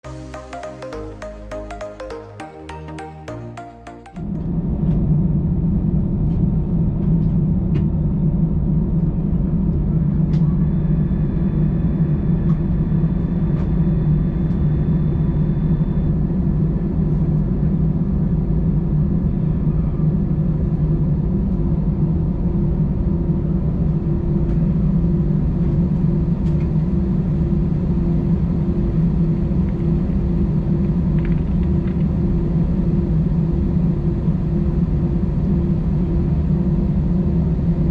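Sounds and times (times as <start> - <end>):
jet engines idling in cabin: 4.7 - 37.9.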